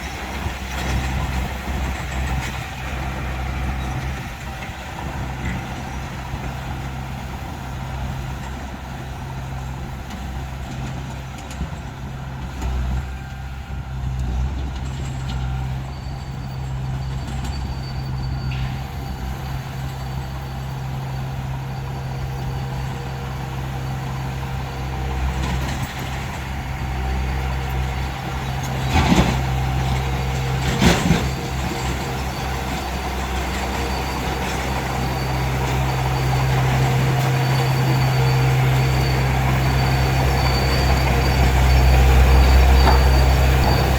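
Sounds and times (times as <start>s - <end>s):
heavy machinery diesel engine droning: 0.0s - 43.9s.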